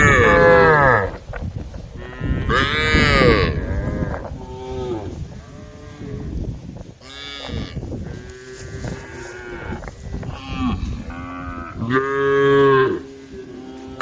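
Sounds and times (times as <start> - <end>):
cattle mooing: 2.0 - 6.3, 7.0 - 14.0.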